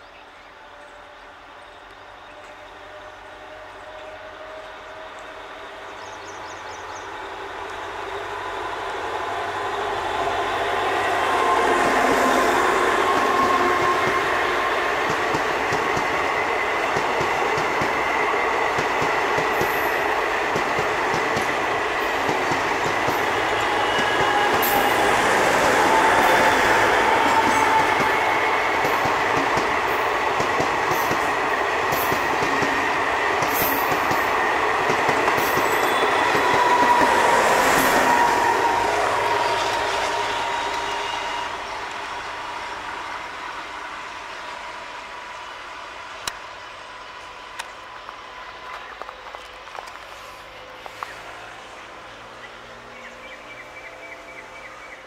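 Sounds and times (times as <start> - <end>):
train wheels rumbling on rails: 0.4 - 55.0.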